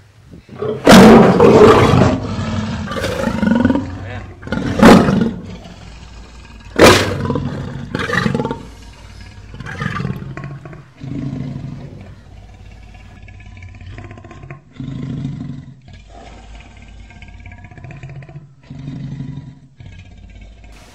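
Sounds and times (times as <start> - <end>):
lion growling and snarling: 0.5 - 20.9.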